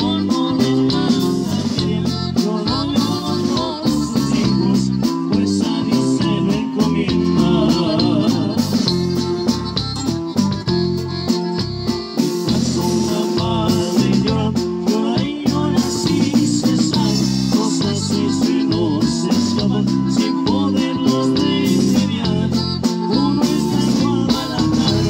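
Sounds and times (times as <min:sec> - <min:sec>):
person singing: 0:00.0 - 0:09.4, 0:12.2 - 0:25.0
accordion: 0:00.0 - 0:25.0
acoustic guitar: 0:00.0 - 0:25.0
drum kit steady beat: 0:00.0 - 0:25.0
electric bass: 0:00.0 - 0:25.0.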